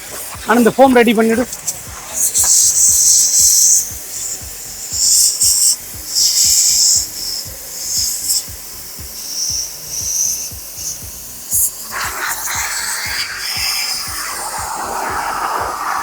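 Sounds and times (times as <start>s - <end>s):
water spray hissing: 0.0s - 16.0s.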